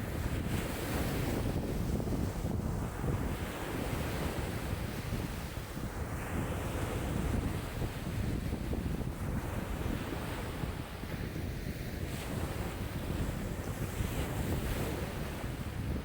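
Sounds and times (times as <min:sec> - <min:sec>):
lake waves breaking and lapping: 0:00.0 - 0:16.0
wind buffeting microphone: 0:00.0 - 0:16.0.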